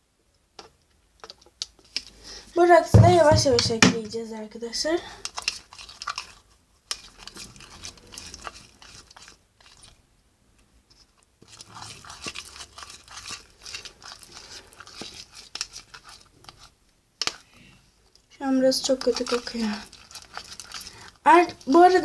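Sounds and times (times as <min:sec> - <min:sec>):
spoon stirring squelching slime: 0:00.6 - 0:22.0.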